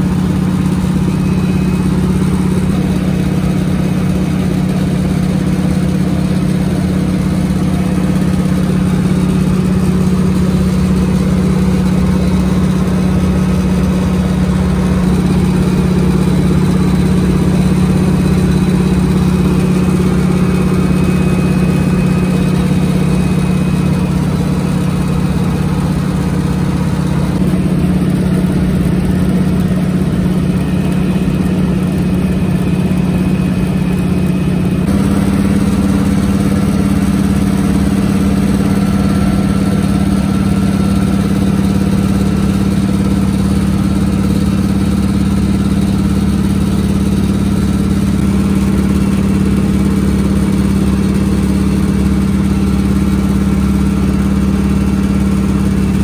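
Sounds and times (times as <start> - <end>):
propeller and airflow noise: 0.0 - 56.0
radial aircraft engine droning: 0.0 - 56.0.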